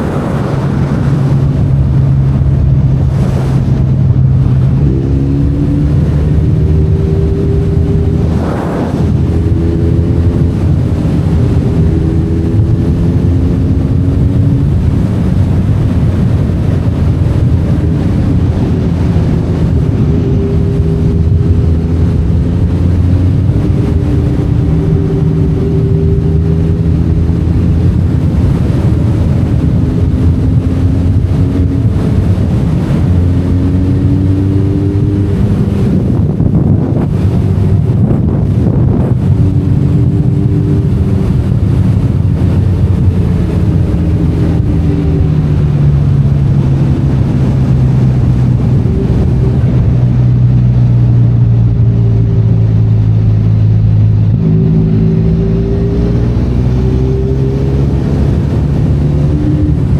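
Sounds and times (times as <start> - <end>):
motorcycle engine revving: 0.0 - 59.9
wind noise on microphone: 0.0 - 59.9.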